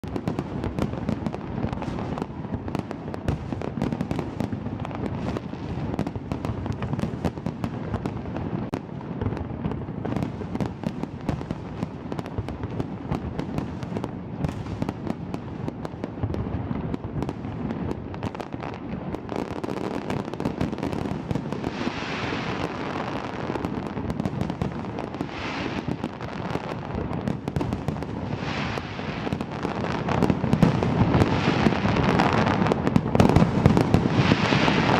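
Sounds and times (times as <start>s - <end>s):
fireworks bangs and booms: 0.0s - 34.9s
fireworks crackling: 0.0s - 34.9s.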